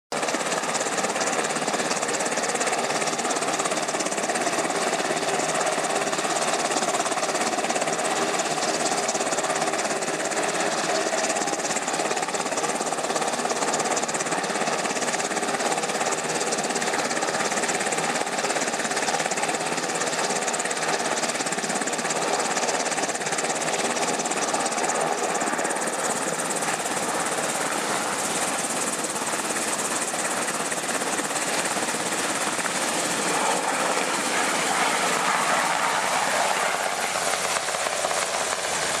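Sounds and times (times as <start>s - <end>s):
aircraft engines droning: 0.2s - 39.0s.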